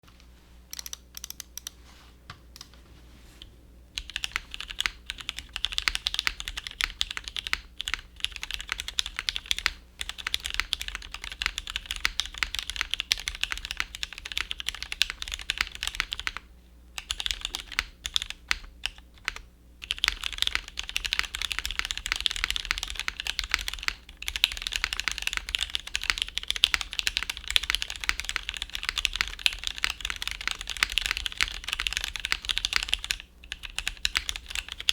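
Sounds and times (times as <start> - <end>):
low computer hum: 0.0 - 34.9
clacky mechanical keyboard typing: 4.0 - 16.4, 17.0 - 34.9.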